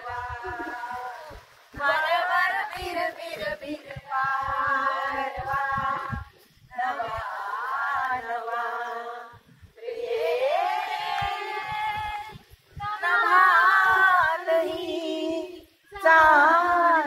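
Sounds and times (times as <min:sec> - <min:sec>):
women singing without instruments: 0:00.0 - 0:17.0.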